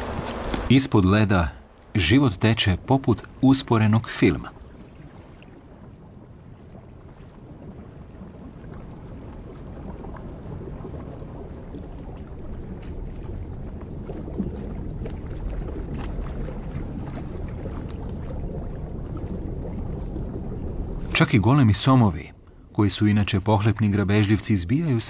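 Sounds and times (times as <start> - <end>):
underwater water rumble: 1.6 - 24.9.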